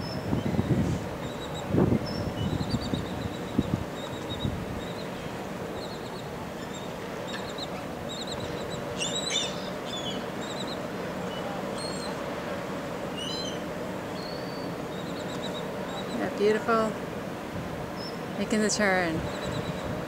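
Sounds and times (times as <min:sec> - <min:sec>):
birds chirping: 0:00.0 - 0:12.4, 0:13.0 - 0:16.9, 0:17.9 - 0:20.0
steady background noise: 0:00.0 - 0:20.0.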